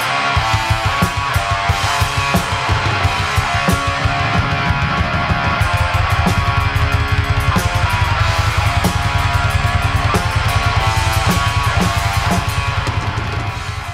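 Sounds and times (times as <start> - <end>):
distorted electric guitar: 0.0 - 13.9
fast rock drumming: 0.0 - 13.9.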